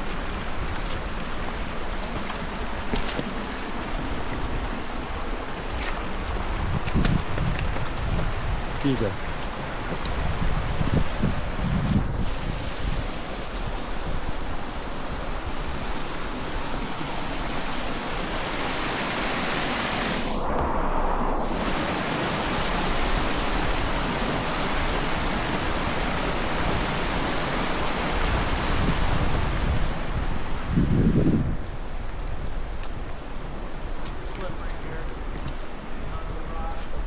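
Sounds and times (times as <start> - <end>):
running water rushing: 0.0 - 20.5, 21.4 - 30.8.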